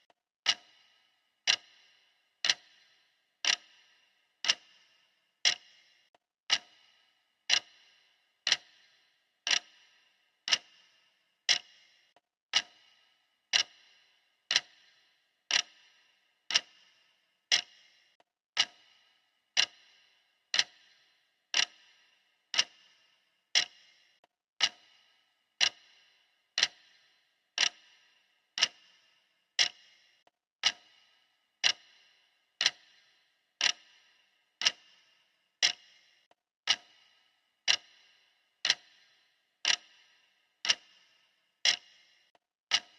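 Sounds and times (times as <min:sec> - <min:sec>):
clock ticking: 0:00.0 - 0:42.9.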